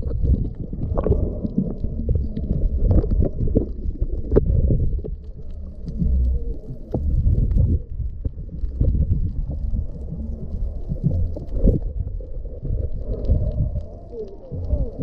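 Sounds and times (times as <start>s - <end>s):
underwater water and bubbles rumble: 0.0s - 15.0s.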